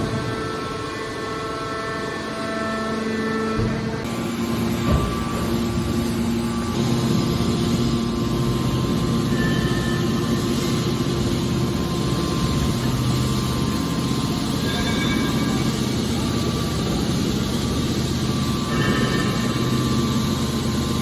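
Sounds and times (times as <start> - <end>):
can baler machine hum: 0.0 - 21.0.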